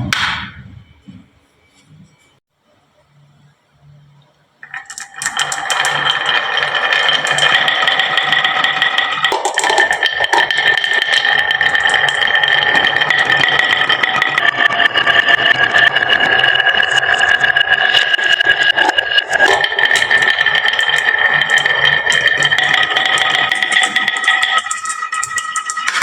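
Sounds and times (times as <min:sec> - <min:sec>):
marbles clattering down wooden slope: 0:04.6 - 0:26.0
steady ringing tone: 0:04.6 - 0:26.0.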